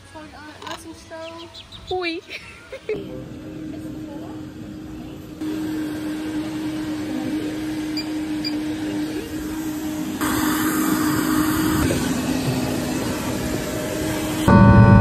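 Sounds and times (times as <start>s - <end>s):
aircraft engines droning: 2.2s - 15.0s.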